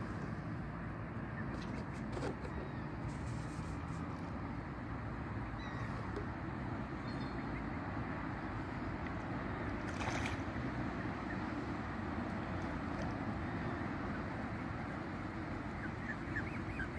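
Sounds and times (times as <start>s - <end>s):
low outdoor rumble: 0.0s - 16.9s.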